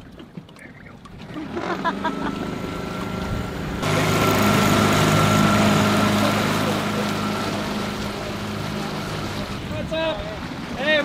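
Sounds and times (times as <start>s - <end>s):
outboard motor running: 0.0s - 11.0s
wind and water rushing: 0.0s - 11.0s.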